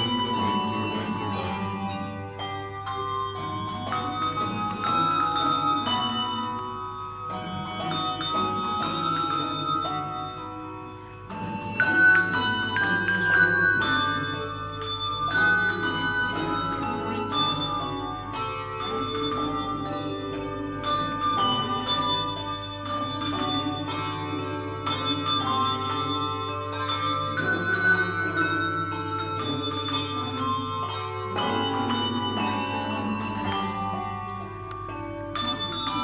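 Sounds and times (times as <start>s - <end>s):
handbell choir playing: 0.0s - 36.0s.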